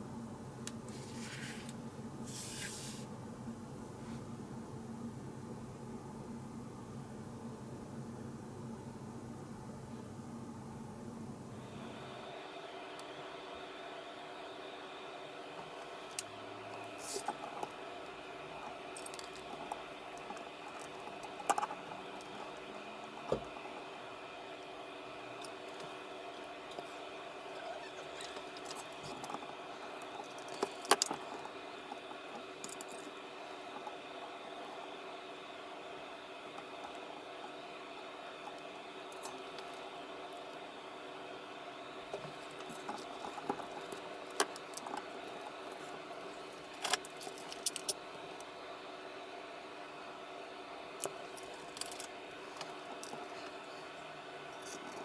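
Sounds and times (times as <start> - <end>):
steady multi-tone hum: 0.0 - 55.0.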